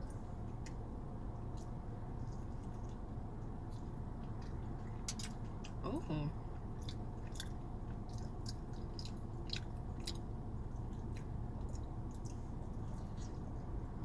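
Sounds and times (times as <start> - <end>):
steady low hum: 0.0 - 14.0
person chewing food: 1.4 - 5.8, 6.4 - 14.0.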